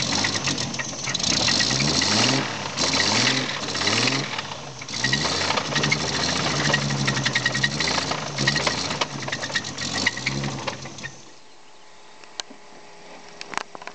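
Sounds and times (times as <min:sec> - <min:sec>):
car engine revving with knocking: 0:00.0 - 0:11.3.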